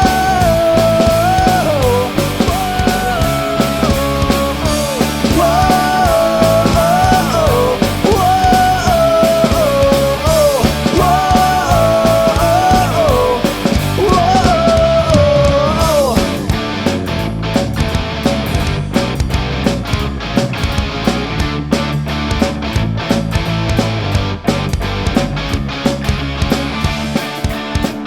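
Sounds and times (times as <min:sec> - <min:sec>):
bass: 0:00.0 - 0:28.0
driving drums: 0:00.0 - 0:28.0
rock band playing: 0:00.0 - 0:28.0.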